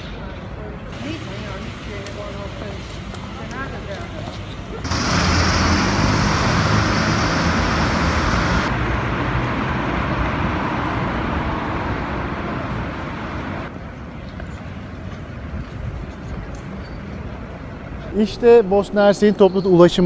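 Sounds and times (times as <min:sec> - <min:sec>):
traffic on wet street: 0:00.0 - 0:19.4.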